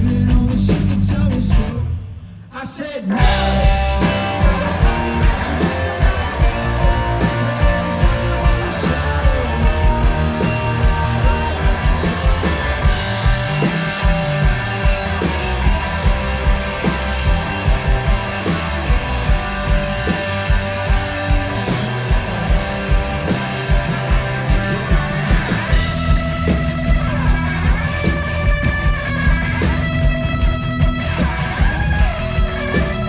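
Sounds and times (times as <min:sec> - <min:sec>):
electric guitar: 0:03.1 - 0:33.0
drum beat: 0:03.2 - 0:33.0.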